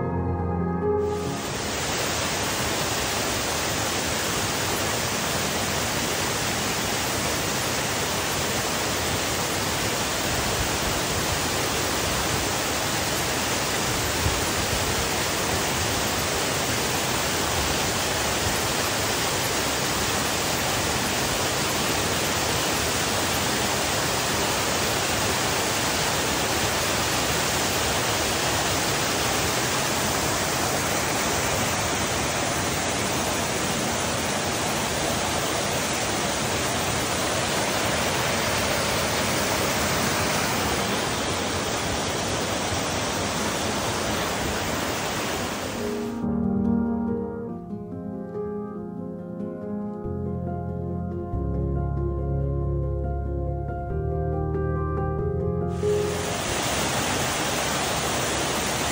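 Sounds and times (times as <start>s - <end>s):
waterfall rushing: 1.0s - 46.2s, 55.7s - 58.9s.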